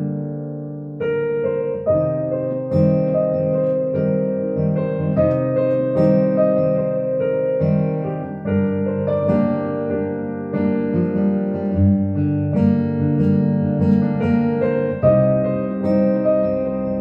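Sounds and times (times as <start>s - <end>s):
slow piano ballad: 0.0s - 17.0s.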